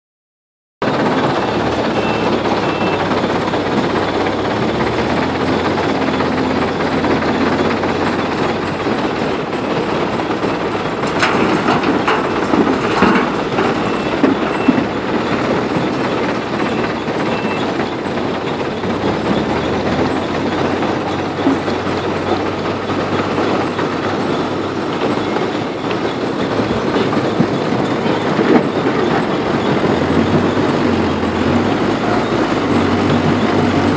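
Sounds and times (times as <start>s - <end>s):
diesel engine running under load: 0.8s - 33.9s
sharp clanks and knocks: 0.8s - 33.9s.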